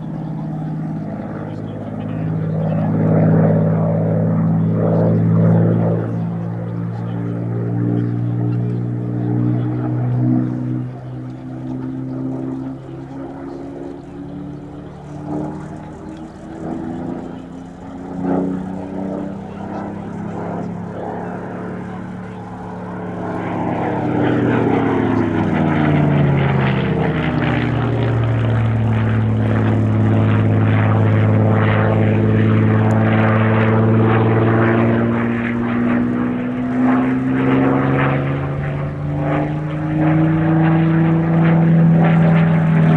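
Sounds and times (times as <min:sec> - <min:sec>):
propeller aircraft engine drone: 0:00.0 - 0:42.9.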